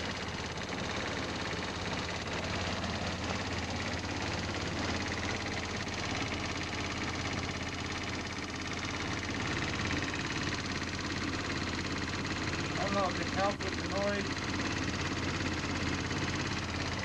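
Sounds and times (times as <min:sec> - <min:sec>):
engine rattle and tapping: 0:00.0 - 0:17.0
scooter engine running: 0:00.0 - 0:17.0.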